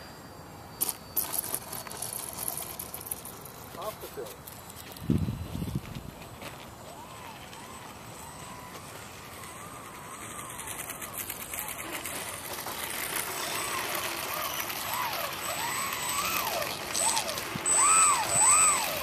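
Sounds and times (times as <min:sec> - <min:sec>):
model airplane motors whining: 0:00.0 - 0:19.0.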